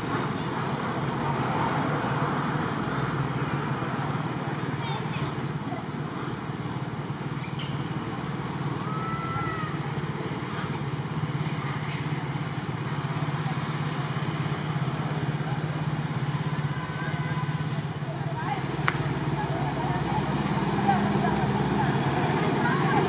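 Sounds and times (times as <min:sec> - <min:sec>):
small engine humming: 0:00.0 - 0:23.0.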